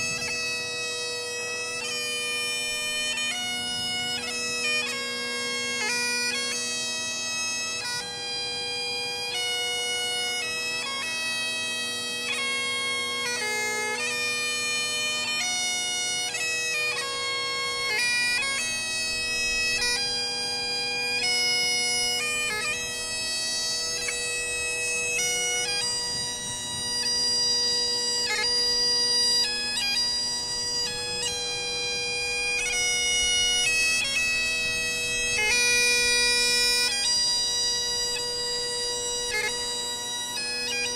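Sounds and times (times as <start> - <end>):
bagpipe drones: 0.0 - 40.9
bagpipe melody: 0.0 - 40.9.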